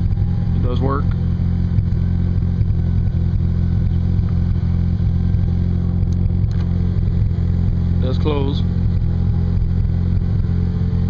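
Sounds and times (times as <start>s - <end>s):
rotary engine idling: 0.0s - 11.0s.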